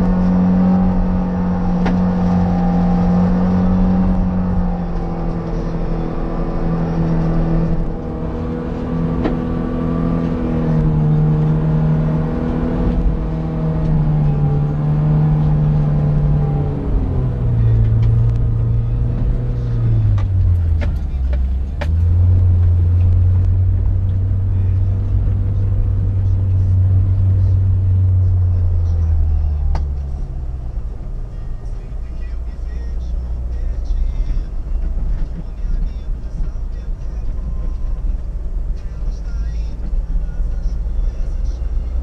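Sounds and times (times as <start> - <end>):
car engine revving under load: 0.0 - 42.0.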